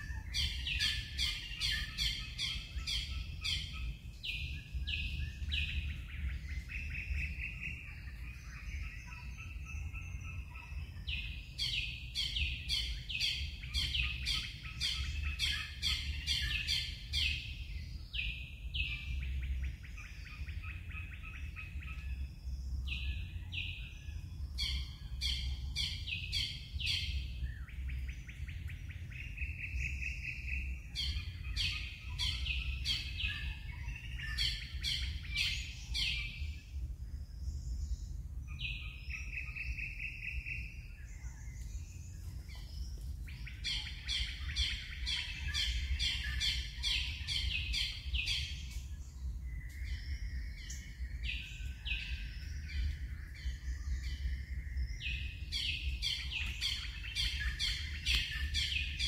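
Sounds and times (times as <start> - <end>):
songbird calling: 0.0 - 59.0
steady low rumble: 0.0 - 59.0.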